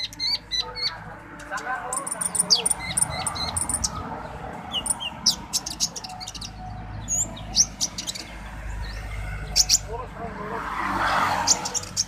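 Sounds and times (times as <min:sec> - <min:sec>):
songbird chirping and trilling: 0:00.0 - 0:12.0.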